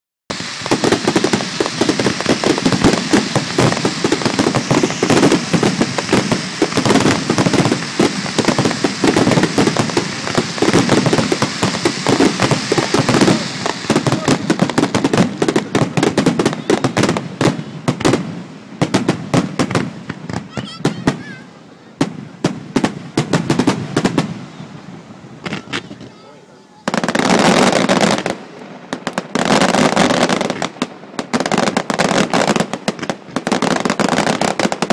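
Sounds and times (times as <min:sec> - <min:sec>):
fireworks bangs and crackling: 0:00.3 - 0:34.9.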